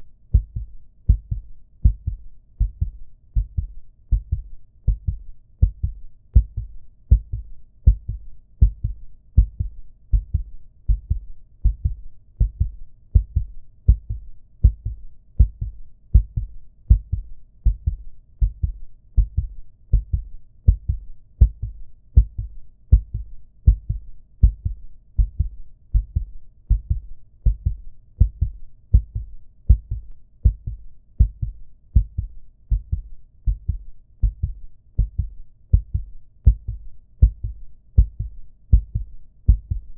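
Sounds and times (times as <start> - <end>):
heartbeat low thuds: 0.3 - 39.9.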